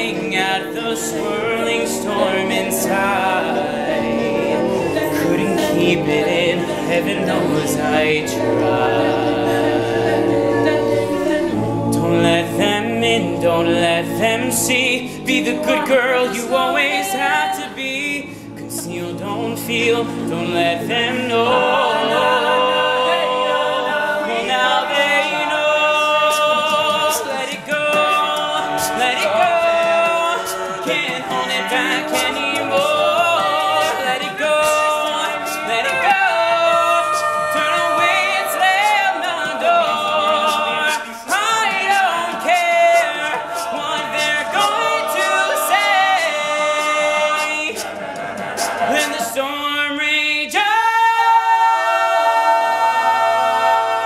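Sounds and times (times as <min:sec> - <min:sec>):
male a cappella group singing: 0:00.0 - 0:54.0.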